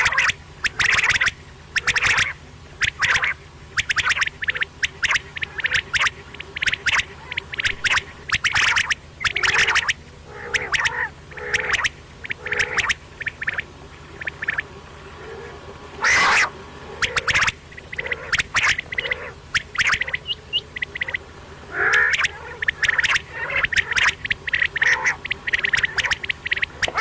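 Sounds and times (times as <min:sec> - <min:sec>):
quail calling: 0:00.0 - 0:27.0.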